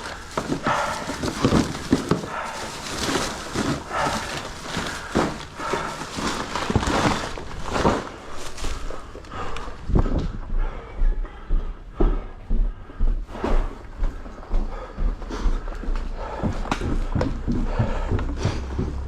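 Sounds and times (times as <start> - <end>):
footsteps: 0.0 - 19.0
man breathing hard: 0.0 - 19.0.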